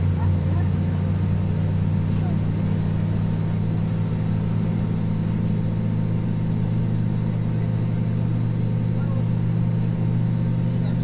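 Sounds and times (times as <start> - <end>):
airliner engines idling: 0.0 - 10.9.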